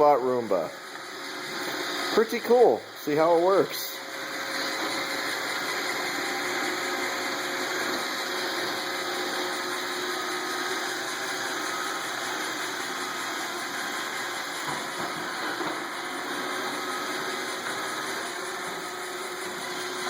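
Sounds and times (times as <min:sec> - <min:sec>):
robot vacuum whirring: 0:00.4 - 0:20.0.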